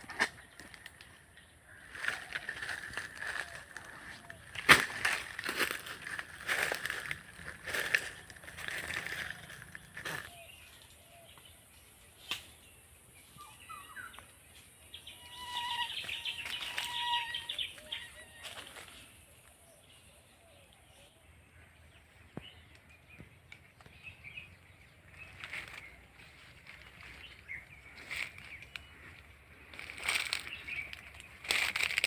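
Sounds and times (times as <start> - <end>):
bird calls: 0.0 - 32.0.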